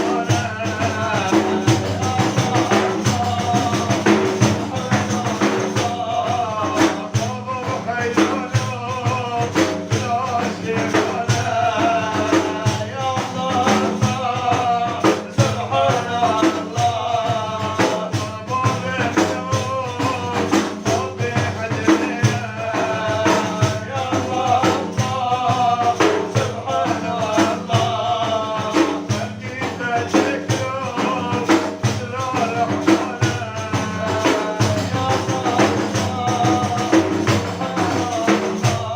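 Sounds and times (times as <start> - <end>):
frame drums with jingles: 0.0 - 38.9.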